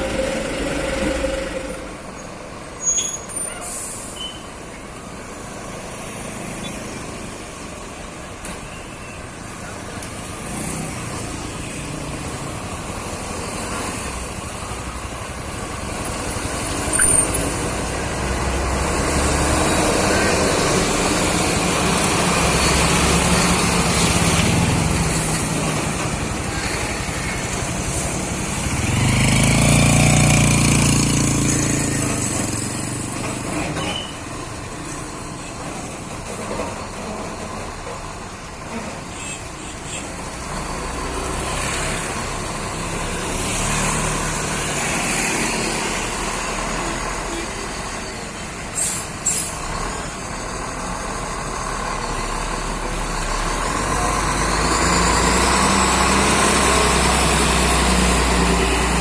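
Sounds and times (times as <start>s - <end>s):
heavy truck engine running: 9.2s - 59.0s.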